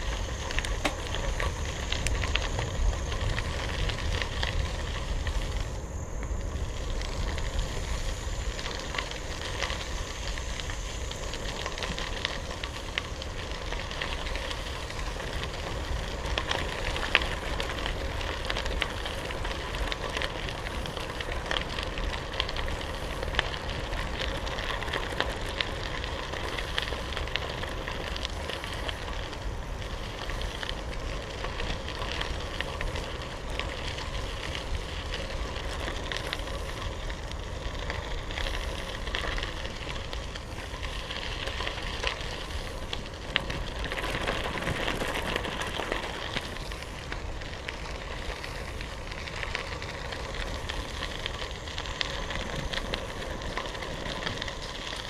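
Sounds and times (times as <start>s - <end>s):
bicycle tyres on gravel: 0.0s - 55.0s.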